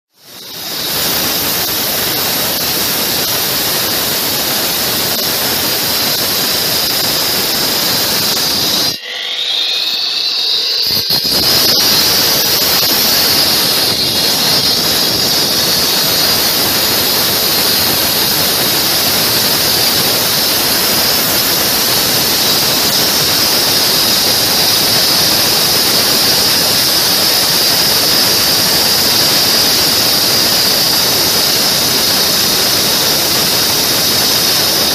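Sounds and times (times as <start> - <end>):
saw cutting concrete: 0.2 - 34.9.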